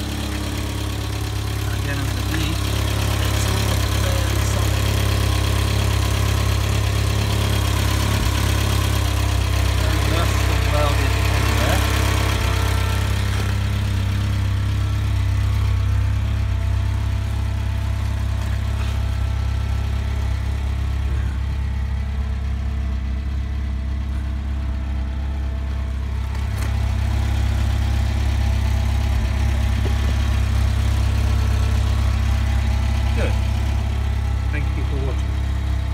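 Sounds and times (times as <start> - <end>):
van engine idling: 0.0 - 35.9.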